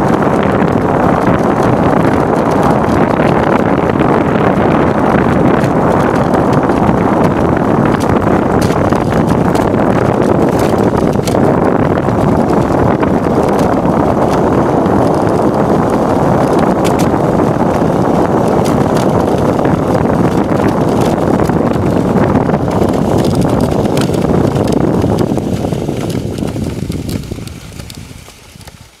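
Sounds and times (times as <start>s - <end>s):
sled runners scraping over snow: 0.0s - 29.0s
wind buffeting microphone: 0.0s - 29.0s.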